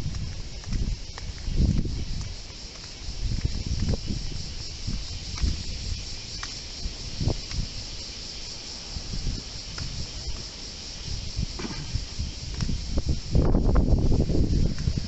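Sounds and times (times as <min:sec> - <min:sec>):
steady high hiss: 0:00.0 - 0:15.0
wind buffeting microphone: 0:00.0 - 0:15.0.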